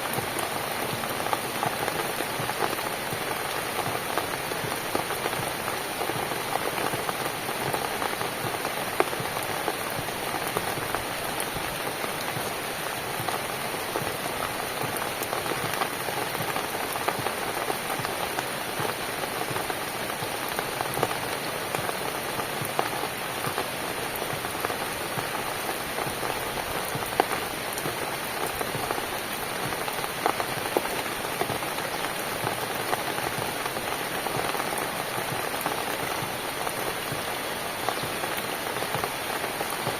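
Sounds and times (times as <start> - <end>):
rain on a cabin: 0.0 - 39.9.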